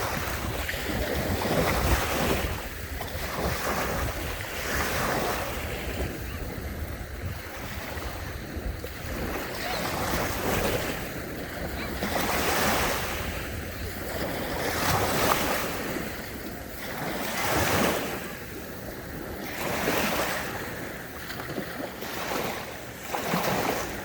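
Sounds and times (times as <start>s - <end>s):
sea waves breaking: 0.0s - 24.0s
wind rumbling on microphone: 0.0s - 24.0s.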